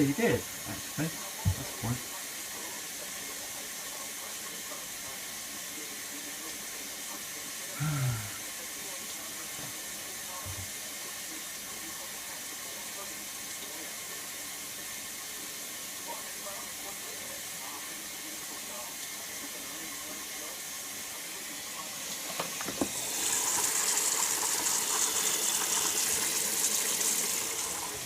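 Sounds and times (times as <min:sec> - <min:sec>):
faint steady hiss: 0:00.0 - 0:28.0
water flowing into machine: 0:00.0 - 0:28.0.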